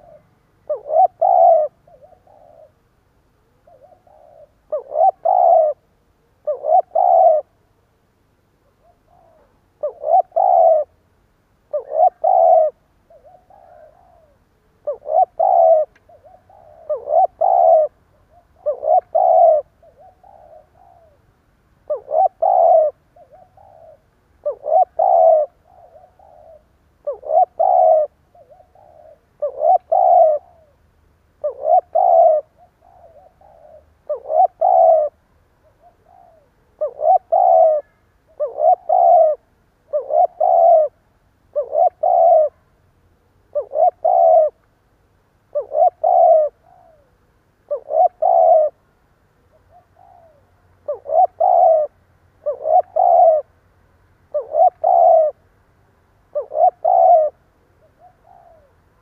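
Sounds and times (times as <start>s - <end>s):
dove cooing: 0.0s - 7.8s, 8.5s - 11.1s, 11.7s - 44.6s, 45.5s - 53.6s, 54.3s - 55.5s, 56.3s - 59.0s.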